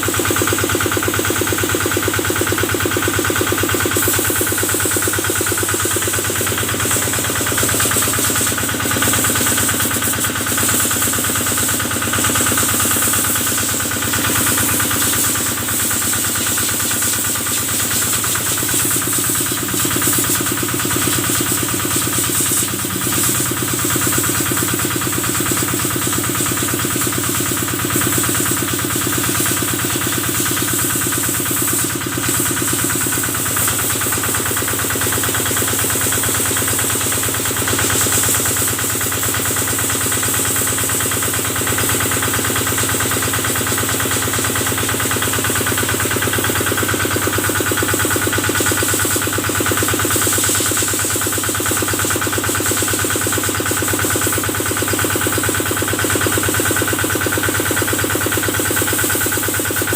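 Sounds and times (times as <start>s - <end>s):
diesel engine running: 0.0s - 50.2s.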